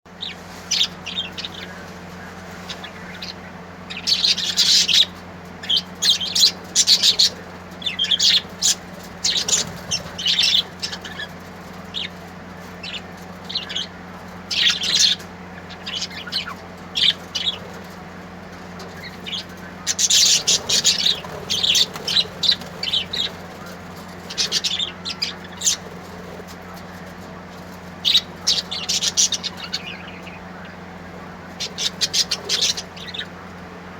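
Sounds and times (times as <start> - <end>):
small birds chirping: 0.2 - 1.8, 2.5 - 33.9
faint low hum: 0.2 - 33.9.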